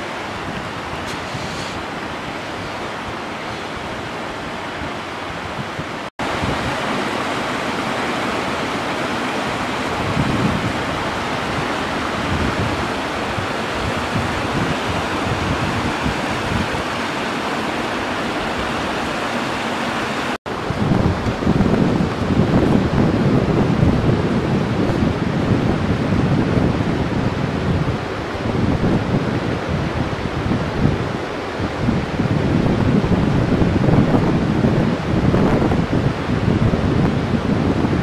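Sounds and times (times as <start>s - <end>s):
river rushing over stones: 0.0s - 38.0s
wind gusts on microphone: 0.0s - 38.0s.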